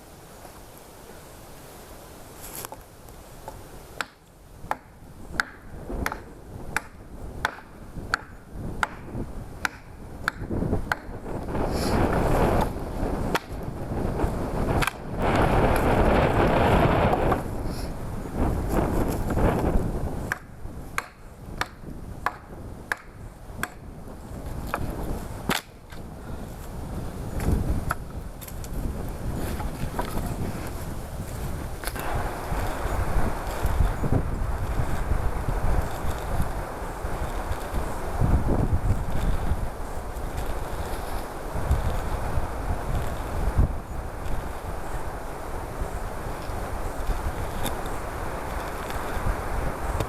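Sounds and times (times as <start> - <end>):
wind rumble on microphone: 4.6 - 50.0.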